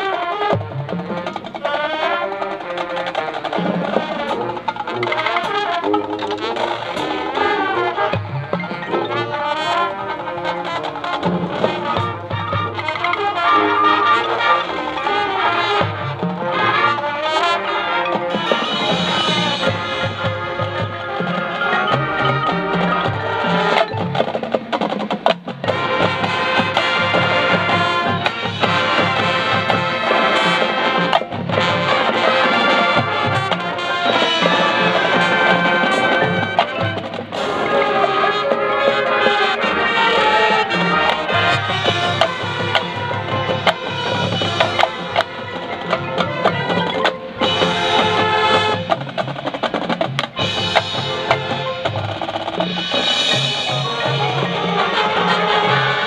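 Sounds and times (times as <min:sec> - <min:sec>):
drums and percussion: 0:00.0 - 0:56.0
marching band brass: 0:00.0 - 0:56.0.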